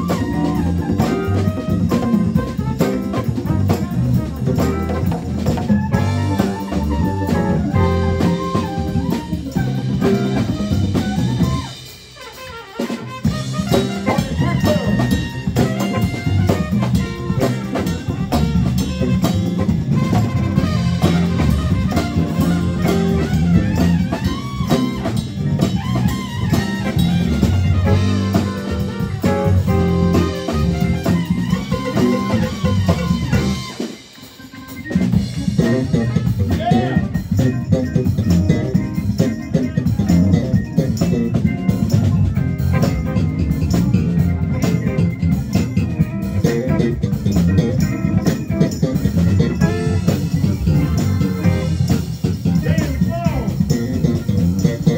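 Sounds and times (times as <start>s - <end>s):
live band playing upbeat music: 0.0s - 54.9s.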